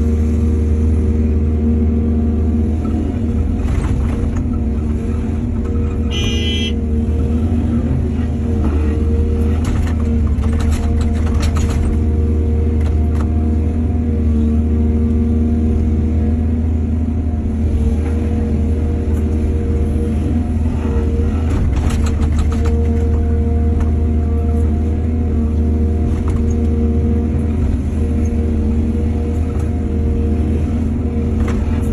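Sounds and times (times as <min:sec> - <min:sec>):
excavator diesel engine droning: 0:00.0 - 0:31.9.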